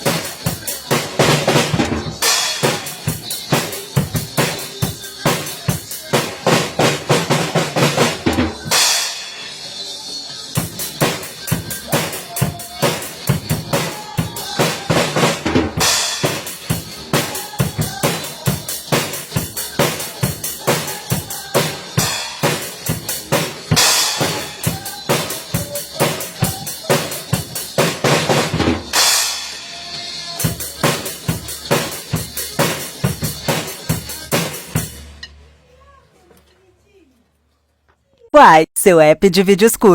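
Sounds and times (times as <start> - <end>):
drum kit played fast: 0.0 - 9.6, 10.5 - 35.1, 38.4 - 39.9.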